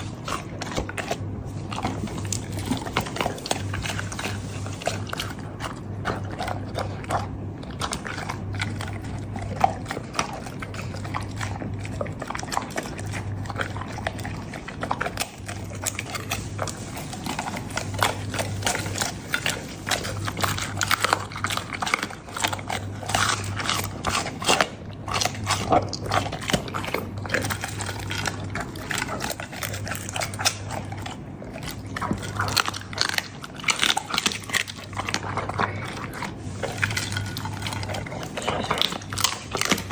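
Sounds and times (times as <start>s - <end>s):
dog chewing meat and bones: 0.0s - 39.9s.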